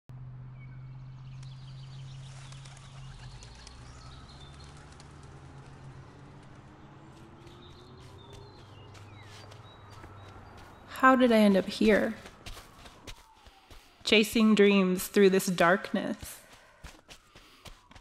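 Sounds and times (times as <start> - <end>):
birds chirping: 0.4 - 18.0.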